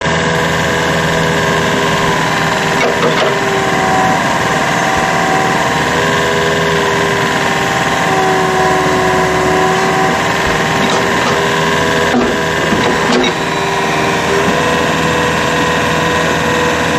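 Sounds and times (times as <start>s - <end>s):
excavator diesel engine running: 0.0s - 16.9s
high-pitched whine: 0.0s - 16.9s.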